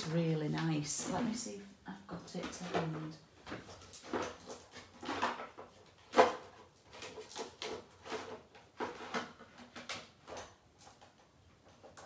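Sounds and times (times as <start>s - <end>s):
plastic folders clacking and rustling: 2.2s - 12.0s.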